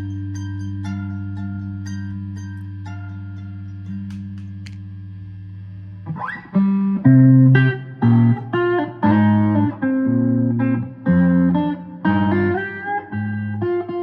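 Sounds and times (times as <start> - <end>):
guitar playing: 0.0 - 14.0.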